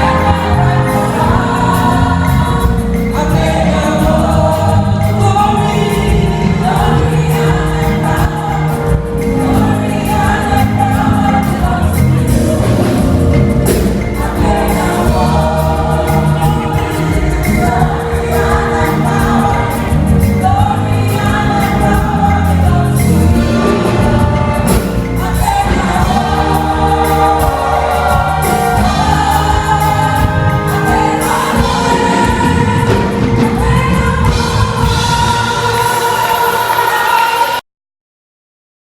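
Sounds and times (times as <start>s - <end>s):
gospel choir singing: 0.0s - 37.6s
live church band: 0.0s - 37.6s.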